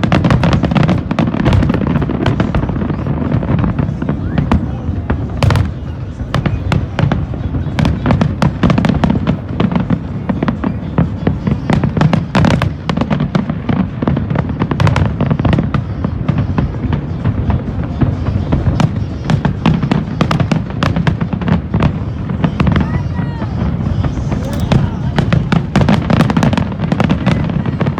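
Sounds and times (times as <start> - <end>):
fireworks cracks and bangs: 0.0 - 27.9.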